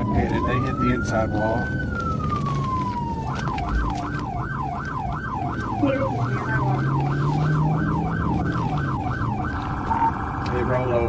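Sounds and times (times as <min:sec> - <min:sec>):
low engine hum: 0:00.0 - 0:11.0
police siren yelping: 0:00.0 - 0:11.0.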